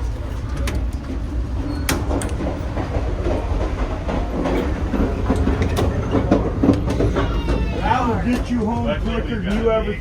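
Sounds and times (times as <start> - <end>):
train rumbling on track: 0.0 - 10.0
wheels clicking over rails: 0.5 - 9.8.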